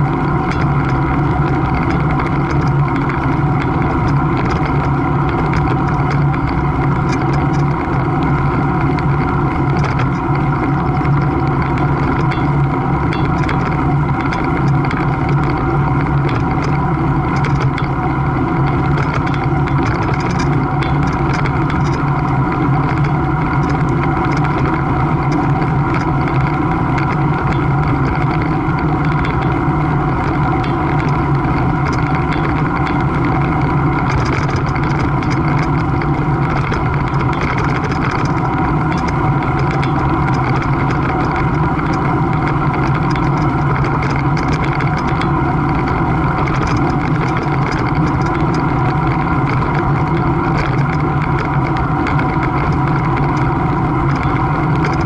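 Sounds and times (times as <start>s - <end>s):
steady engine-like drone: 0.0s - 55.0s.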